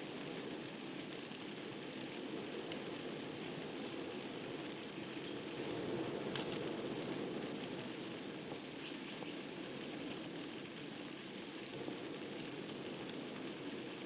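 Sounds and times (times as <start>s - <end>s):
logs crackling and popping: 0.0s - 14.0s
fire hissing: 0.3s - 14.0s.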